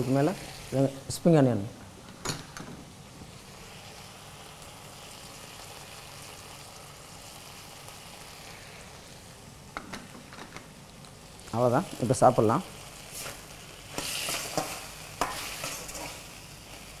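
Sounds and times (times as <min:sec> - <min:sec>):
food sizzling in a wok: 0:00.0 - 0:01.4, 0:02.9 - 0:17.0.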